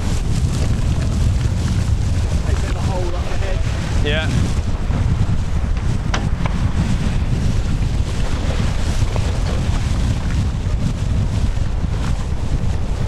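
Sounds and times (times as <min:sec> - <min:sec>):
water rushing along hulls: 0:00.0 - 0:13.0
wind buffeting microphone: 0:00.0 - 0:13.0.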